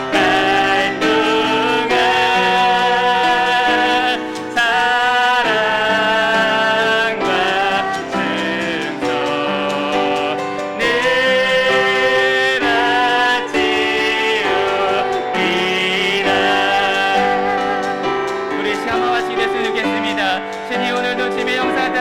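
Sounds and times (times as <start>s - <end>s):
piano: 0.0s - 22.0s
voices singing long notes: 0.0s - 22.0s.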